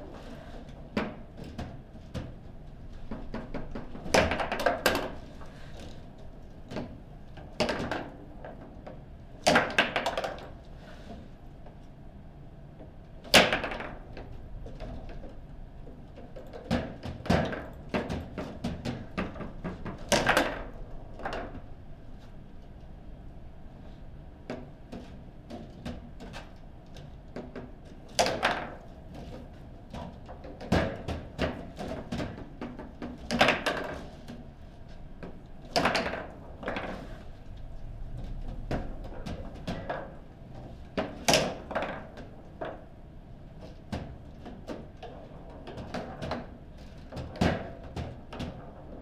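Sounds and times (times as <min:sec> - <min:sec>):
table football knocks and clacks: 0:00.9 - 0:05.3, 0:06.6 - 0:10.6, 0:13.2 - 0:21.6, 0:24.4 - 0:34.5, 0:35.2 - 0:42.9, 0:43.6 - 0:49.0.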